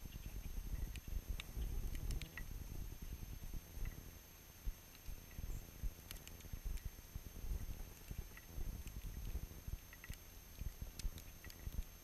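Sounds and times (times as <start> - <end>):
faint high ticks: 0.1 - 2.6, 3.7 - 12.0.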